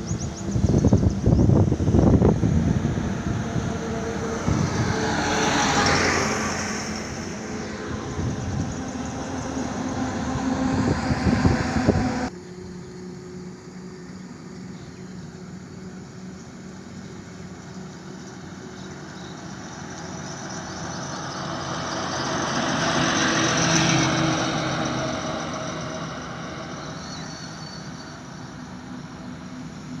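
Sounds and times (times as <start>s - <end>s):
vehicle passing by: 0.0s - 12.4s, 16.9s - 30.0s.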